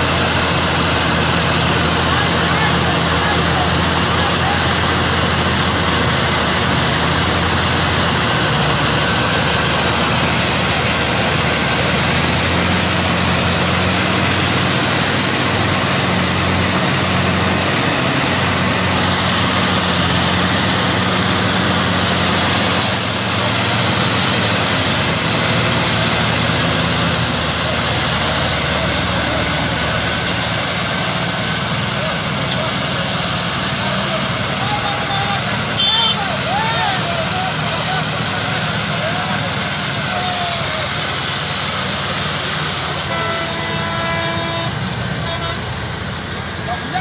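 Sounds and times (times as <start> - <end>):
tractor diesel engines under load: 0.0 - 47.0.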